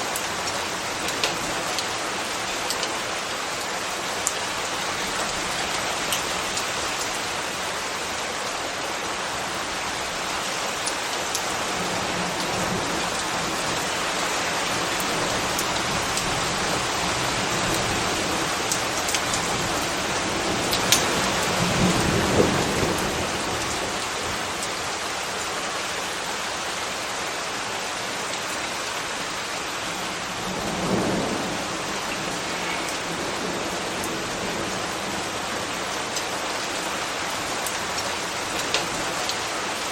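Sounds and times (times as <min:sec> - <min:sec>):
deeper rain swells: 0:00.0 - 0:39.9
sharp louder raindrops: 0:00.0 - 0:39.9
steady rain falling: 0:00.0 - 0:39.9.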